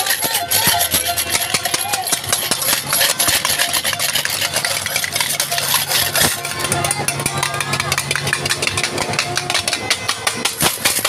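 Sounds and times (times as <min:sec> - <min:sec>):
sharp crackles and clicks: 0:00.0 - 0:11.0
vehicle engine idling: 0:00.0 - 0:11.0.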